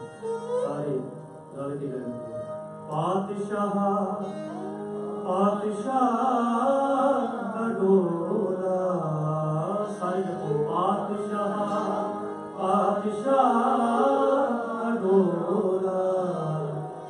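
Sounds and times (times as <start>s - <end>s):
bowed string instrument: 0.0s - 17.0s
harmonium: 0.0s - 17.0s.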